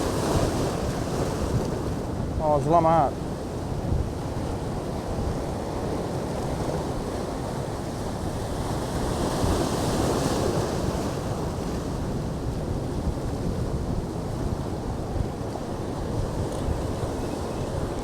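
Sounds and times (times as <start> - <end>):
surf washing against rocks: 0.0 - 18.0
wind buffeting microphone: 3.2 - 18.0.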